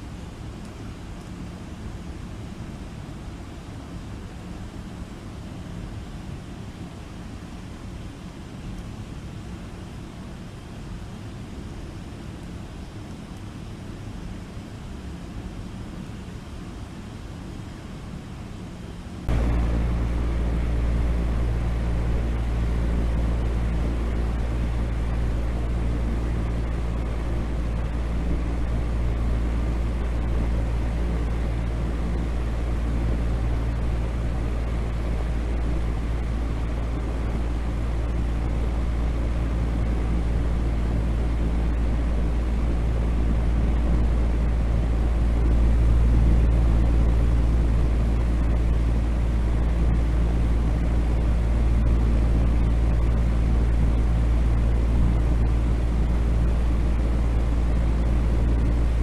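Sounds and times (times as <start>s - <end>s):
continuous deep rumble: 0.0s - 59.0s
faint low hum: 0.0s - 59.0s.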